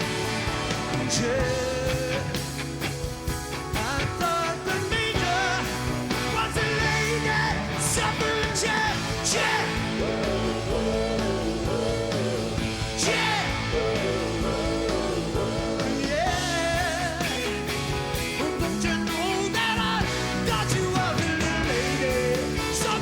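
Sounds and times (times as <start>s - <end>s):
live rock band playing: 0.0s - 23.0s
person singing: 0.9s - 2.6s, 3.8s - 17.6s, 18.4s - 23.0s.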